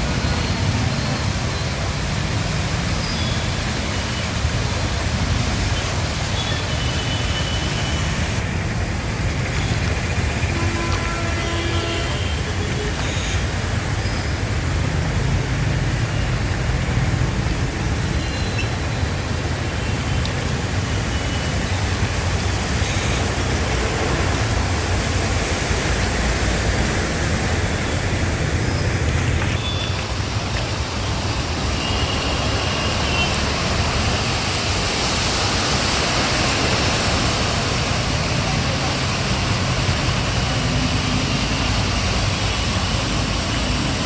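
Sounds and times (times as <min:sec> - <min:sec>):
traffic on a wet street: 0:00.0 - 0:44.0.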